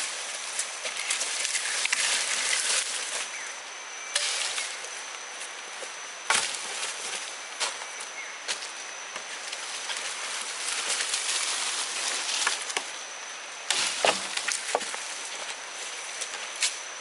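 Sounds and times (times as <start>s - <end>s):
high forest hiss: 0.0s - 17.0s.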